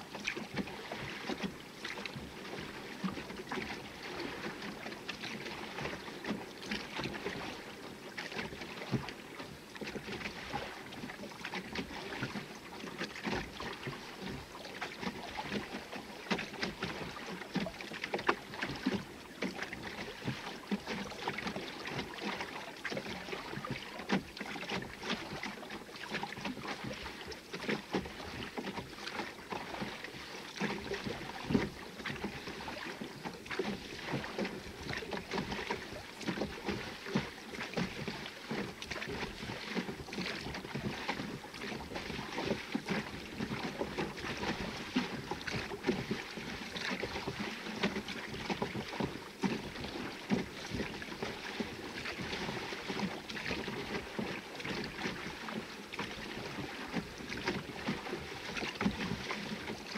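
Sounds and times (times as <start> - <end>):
oars pulling through water: 0.0 - 59.9
water lapping against hull: 0.0 - 59.9.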